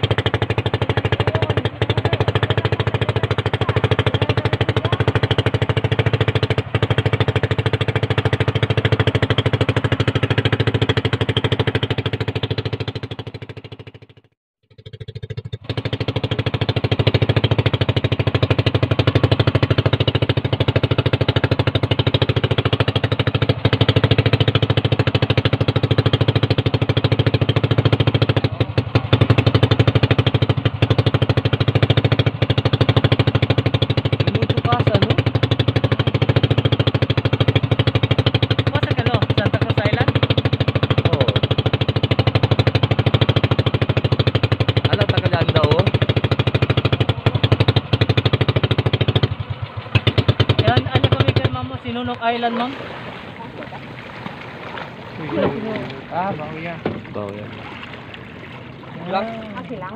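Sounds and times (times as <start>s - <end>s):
small boat engine running: 0.0s - 59.9s.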